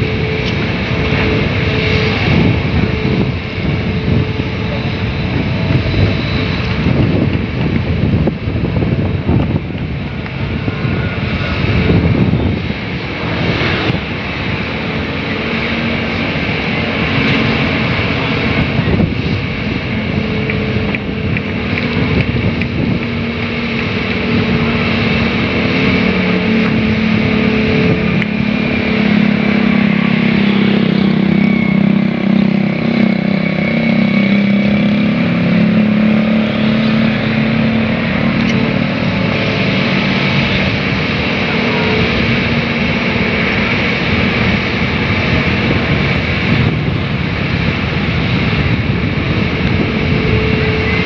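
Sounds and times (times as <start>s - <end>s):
engine running steadily: 0.0s - 51.0s.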